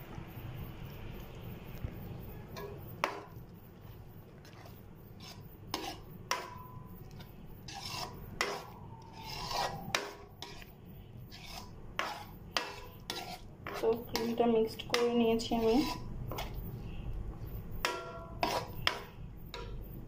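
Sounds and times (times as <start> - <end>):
metal spoon scraping pan: 2.5 - 16.7, 17.8 - 19.9.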